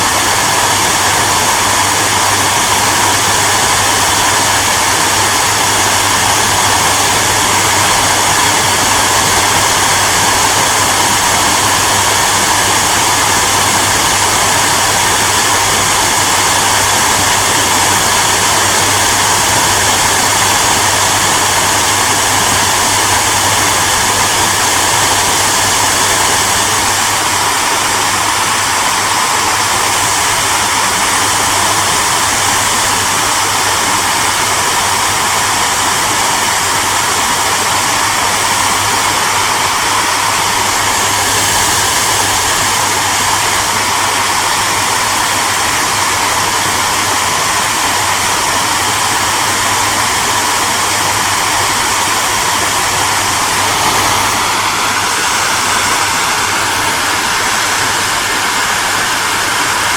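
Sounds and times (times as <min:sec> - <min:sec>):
hairdryer running: 0:00.0 - 0:59.9.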